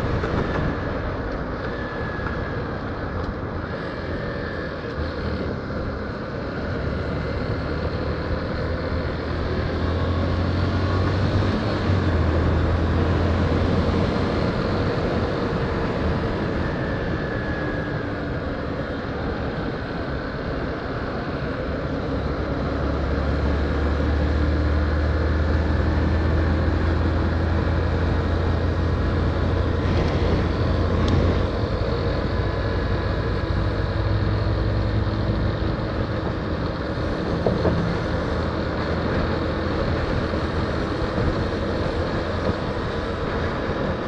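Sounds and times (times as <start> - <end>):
wind and road noise: 0.0 - 44.0.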